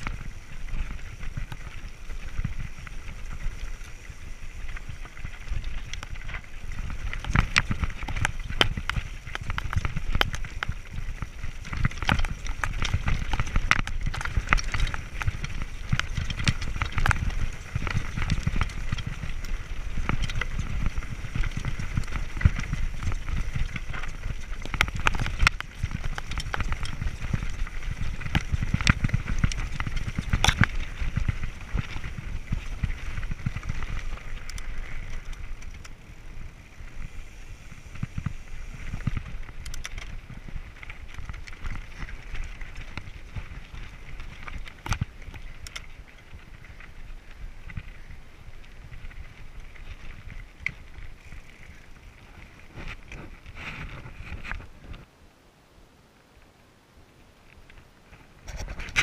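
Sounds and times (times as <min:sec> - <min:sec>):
bike frame and chain rattling: 0:00.0 - 0:55.1
bike tyres crunching on stones: 0:00.0 - 0:55.1, 0:57.2 - 0:59.0.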